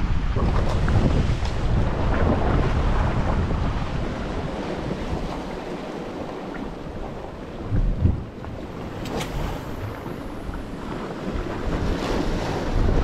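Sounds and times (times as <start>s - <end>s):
sea surf: 0.0s - 13.0s
wind buffeting microphone: 0.0s - 13.0s.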